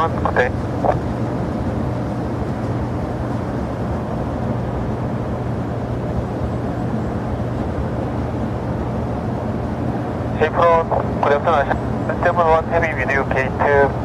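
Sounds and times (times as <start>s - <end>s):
jet engines droning: 0.0s - 14.0s.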